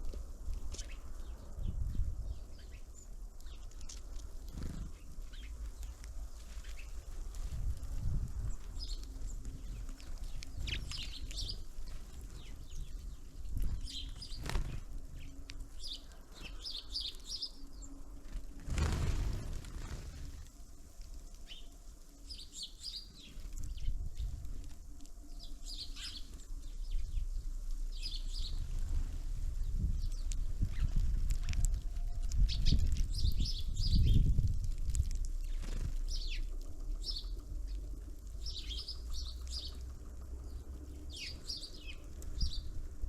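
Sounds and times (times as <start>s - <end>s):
small birds chirping: 0.0s - 43.0s
wings fluttering: 3.4s - 43.0s.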